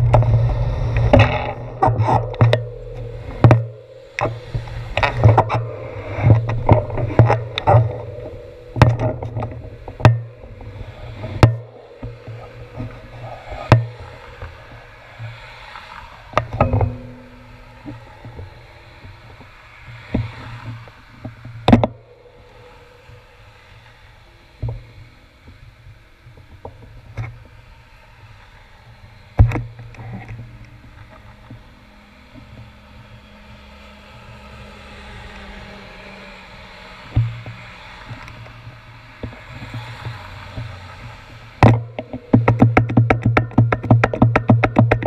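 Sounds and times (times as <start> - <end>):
bus passing: 0.0 - 26.1, 27.3 - 42.4
muffled traffic: 0.0 - 45.0.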